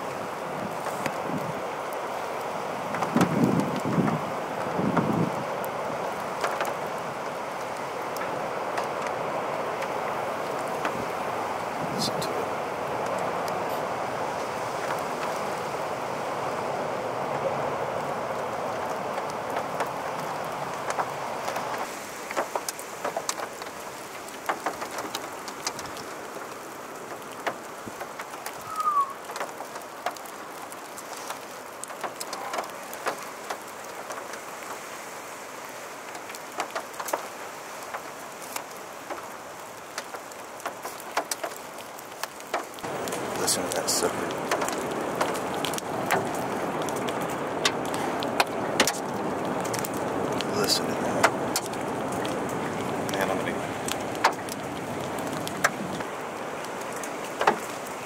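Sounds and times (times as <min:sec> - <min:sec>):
raindrops ticking: 0:00.0 - 0:16.1, 0:17.5 - 0:35.0, 0:35.6 - 0:58.0
tornado roar: 0:00.0 - 0:34.7, 0:37.8 - 0:58.0
wind hiss: 0:00.0 - 0:58.0.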